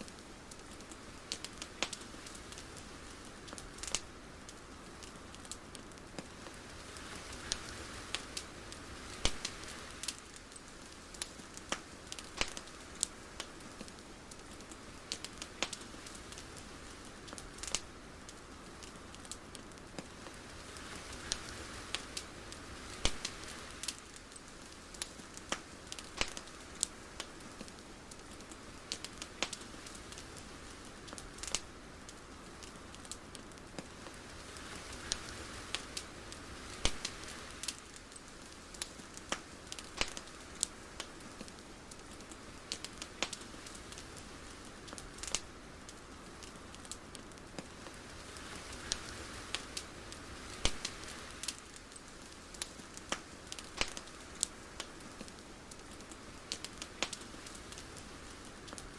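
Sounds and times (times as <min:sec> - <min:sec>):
sharp crackles and pops: 0:00.0 - 0:58.9
soft night ambience hiss: 0:00.0 - 0:58.9.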